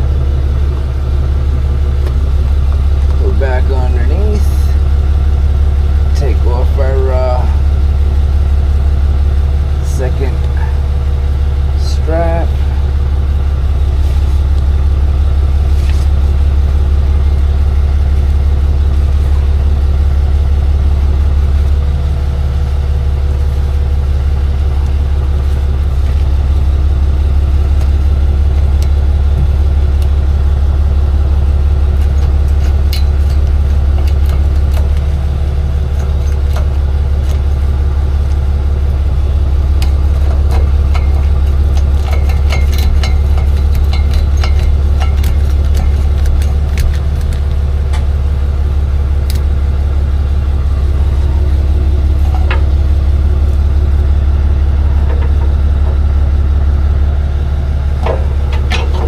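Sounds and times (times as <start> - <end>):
truck engine low drone: 0.0 - 59.0.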